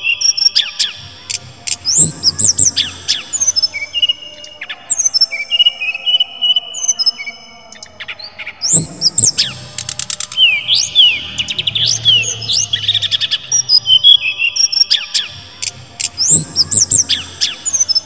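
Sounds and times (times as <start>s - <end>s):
bird singing varied song: 0.0s - 18.0s.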